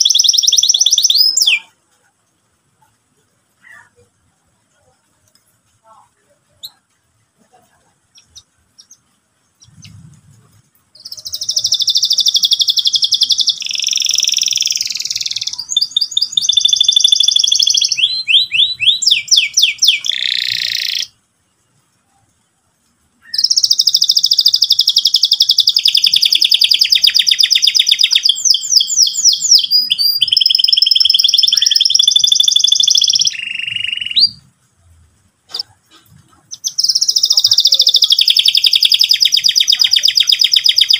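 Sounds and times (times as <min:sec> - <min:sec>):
canary singing trills: 0:00.0 - 0:01.9, 0:02.6 - 0:21.7, 0:23.2 - 0:34.6, 0:35.5 - 0:40.9.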